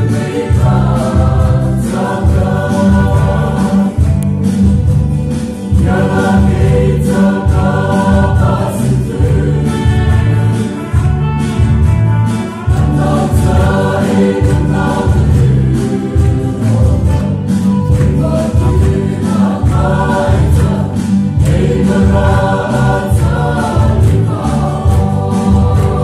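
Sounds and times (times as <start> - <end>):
mixed choir singing: 0.0 - 11.2, 12.6 - 26.0.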